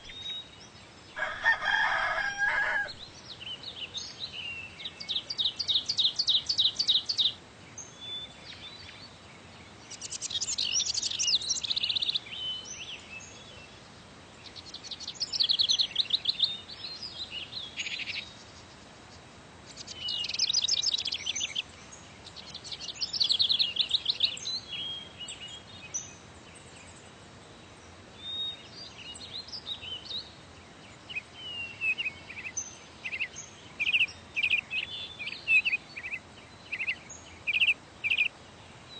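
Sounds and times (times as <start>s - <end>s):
faint steady hiss: 0.0s - 38.9s
songbirds trilling: 0.0s - 38.9s
bird chirps: 1.9s - 13.7s, 14.4s - 18.8s, 19.7s - 27.1s, 28.2s - 38.9s.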